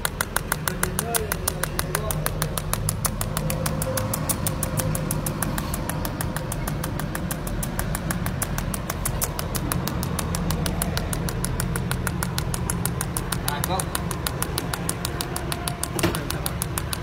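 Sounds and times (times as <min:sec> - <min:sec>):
rapid ticking: 0:00.0 - 0:17.0.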